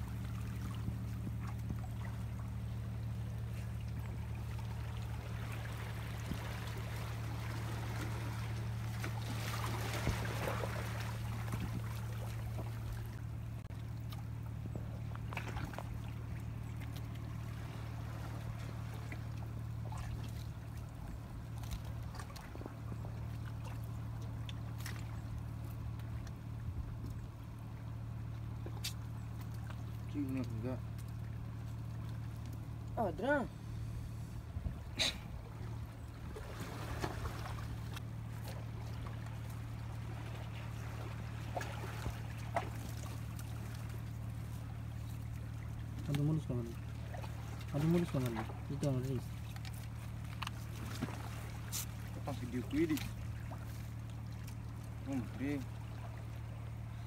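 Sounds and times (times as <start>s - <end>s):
seawater washing among rocks: 0.0s - 26.6s, 34.9s - 57.0s
low engine hum: 0.0s - 57.0s.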